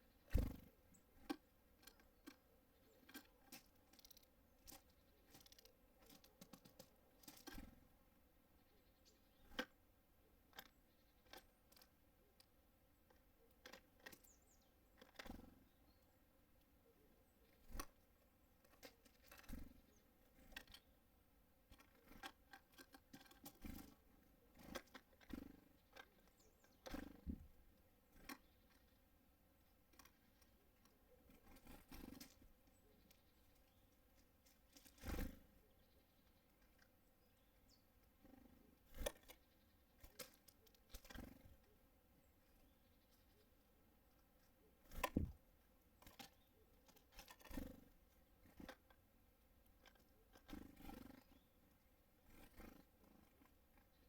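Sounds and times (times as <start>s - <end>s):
birds tapping and pecking on wooden feeder: 0.1s - 8.1s, 8.9s - 54.0s.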